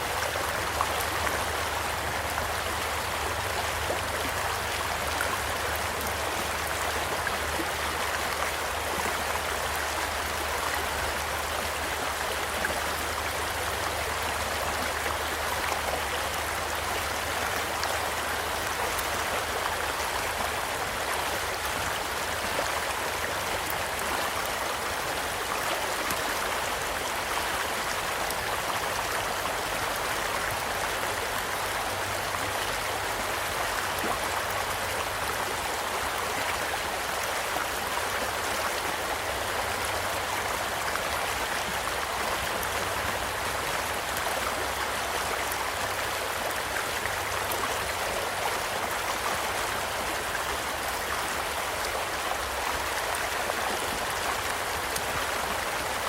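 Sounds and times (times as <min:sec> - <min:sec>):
stream rushing and babbling: 0:00.0 - 0:56.0.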